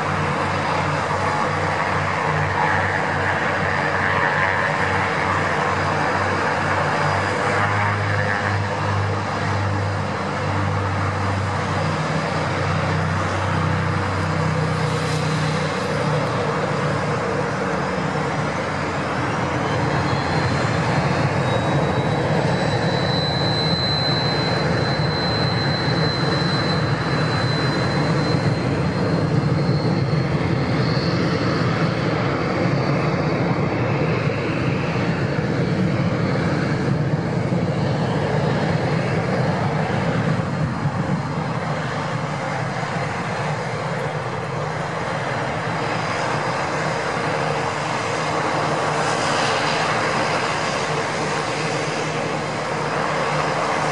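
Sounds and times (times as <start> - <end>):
high turbine whine: 0.0 - 53.9
propeller drone: 0.0 - 53.9.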